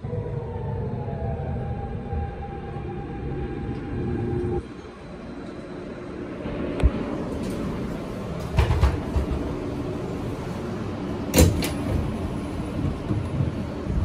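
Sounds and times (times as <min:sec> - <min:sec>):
subway car rumble: 0:00.0 - 0:14.0.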